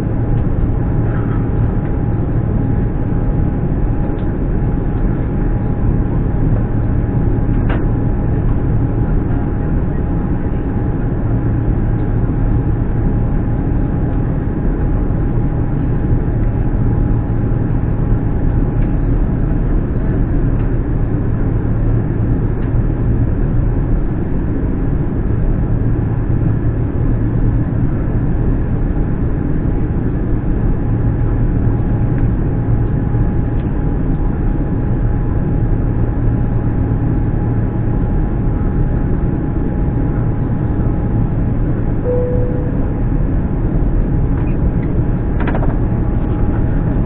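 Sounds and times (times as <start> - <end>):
airplane engine drone: 0.0 - 47.0
faint steady whine: 0.0 - 47.0.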